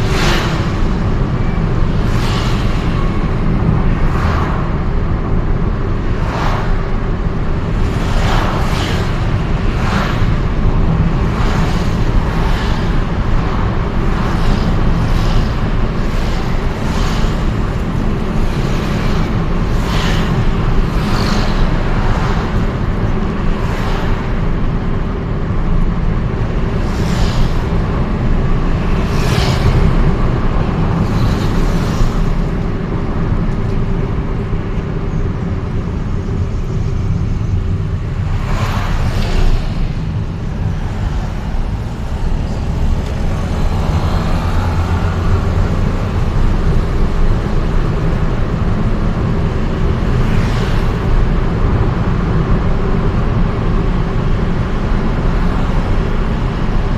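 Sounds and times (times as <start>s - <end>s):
engine and road noise: 0.0s - 56.9s
vehicles whooshing past: 0.0s - 56.9s.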